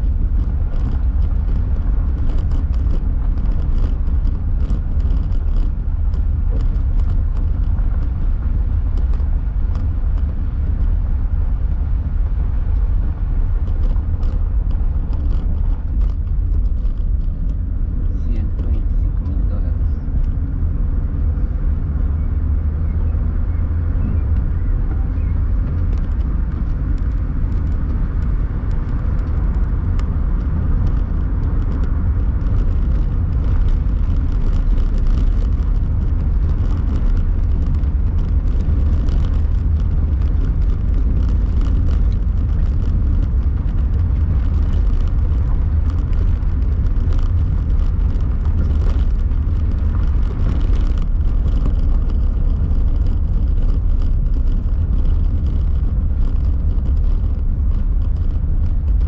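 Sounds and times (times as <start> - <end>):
small clicks and rattles: 0.0 - 11.0, 11.6 - 20.5, 24.2 - 59.0
car engine and road rumble: 0.0 - 59.0.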